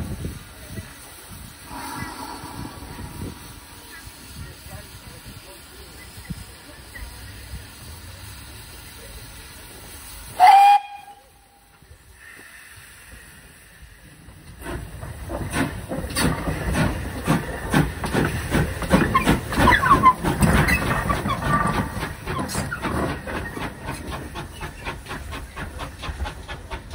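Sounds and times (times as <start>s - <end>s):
steam hissing: 0.0s - 26.9s
steam locomotive chuffing: 0.0s - 26.9s.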